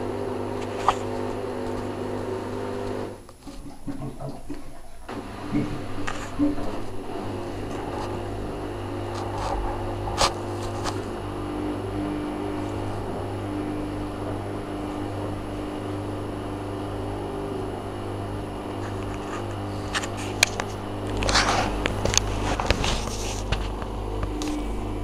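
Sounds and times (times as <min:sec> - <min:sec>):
washing machine motor humming: 0:00.0 - 0:25.0.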